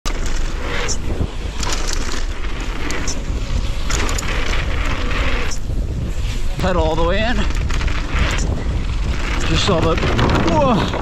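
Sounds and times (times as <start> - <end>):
tyres rumbling on dirt: 0.1 - 11.0
tyres sliding on loose dirt: 0.1 - 11.0
wind buffeting microphone: 0.1 - 11.0.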